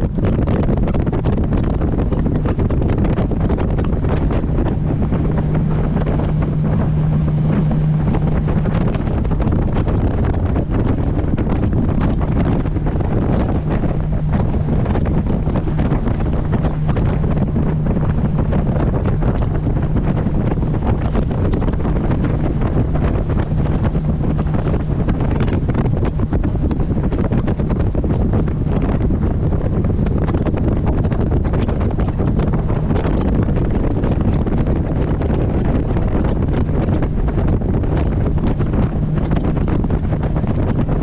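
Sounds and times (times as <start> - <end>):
boat engine drone: 0.0 - 41.0
rushing water: 0.0 - 41.0
wind buffeting microphone: 0.0 - 41.0.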